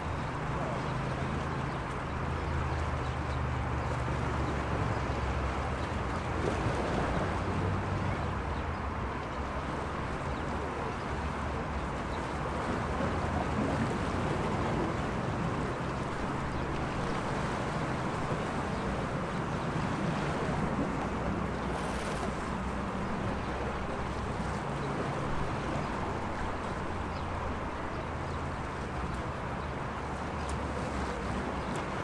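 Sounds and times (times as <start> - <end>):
sea waves washing: 0.0 - 32.0.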